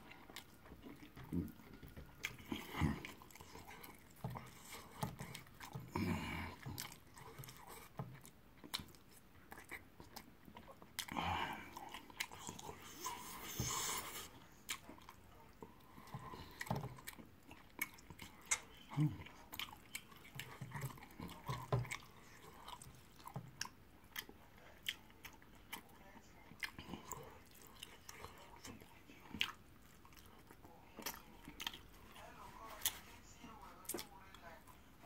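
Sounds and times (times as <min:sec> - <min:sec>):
chewing and lip smacking: 0:00.0 - 0:35.0.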